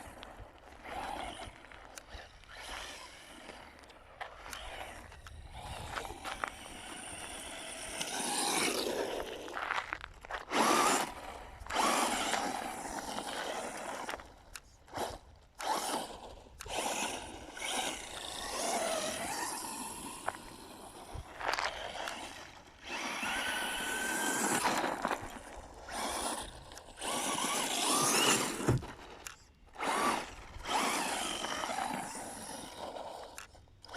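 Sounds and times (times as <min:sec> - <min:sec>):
electric motor whining: 0:00.0 - 0:09.6, 0:10.5 - 0:33.9.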